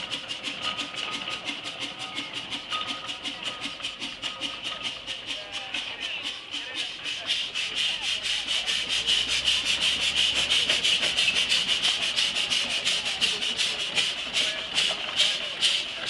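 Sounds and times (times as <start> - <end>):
steam engine chuffing: 0.0 - 16.0.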